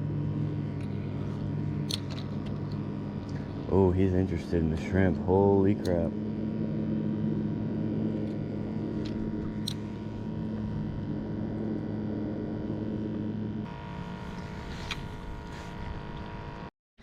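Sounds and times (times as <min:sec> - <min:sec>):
low engine drone: 0:00.0 - 0:16.7.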